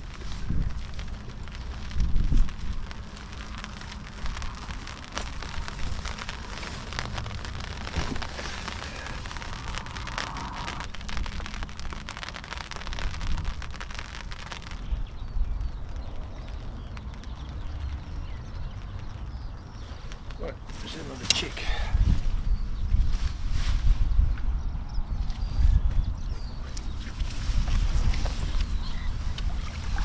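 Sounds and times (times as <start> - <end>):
steady rain falling: 0.0 - 22.7, 26.4 - 30.0
wind rumbling on microphone: 0.0 - 30.0.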